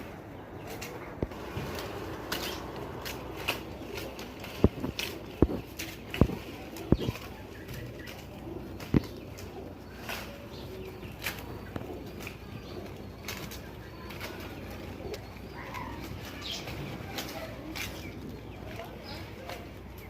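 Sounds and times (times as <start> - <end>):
pigeons cooing: 0.0 - 20.0
wing flaps: 0.7 - 19.7.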